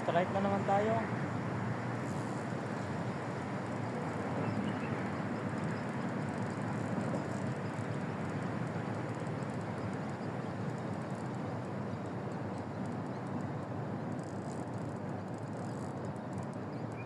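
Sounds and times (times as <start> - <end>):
fishing reel whirring: 1.9 - 17.0.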